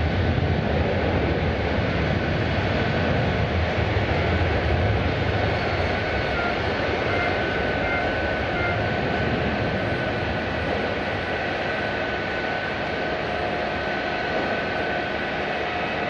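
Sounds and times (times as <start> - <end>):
airliner engines roaring: 0.0 - 16.0
faint high engine whine: 0.0 - 16.0.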